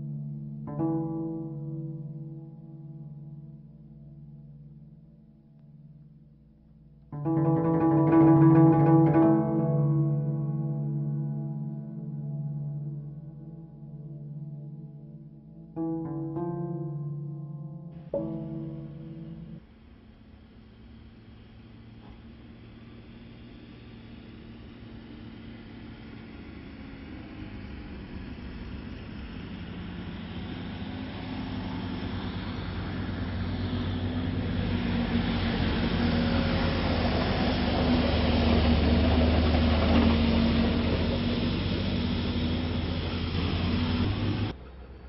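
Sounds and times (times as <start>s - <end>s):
road and tyre noise: 0.0s - 45.0s
truck engine passing: 7.2s - 45.0s.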